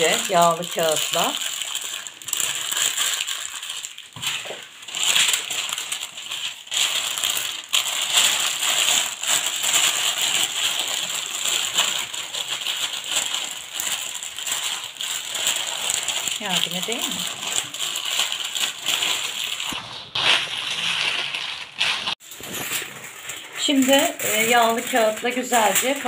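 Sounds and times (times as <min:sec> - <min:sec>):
parchment paper crinkling: 0:00.0 - 0:26.0.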